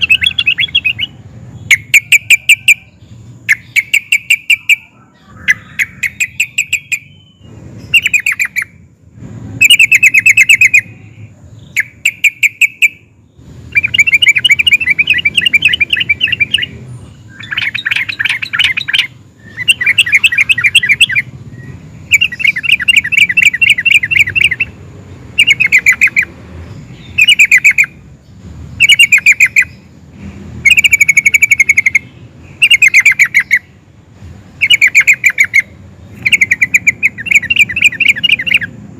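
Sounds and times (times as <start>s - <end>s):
bird singing chattering trills: 0.0s - 38.9s.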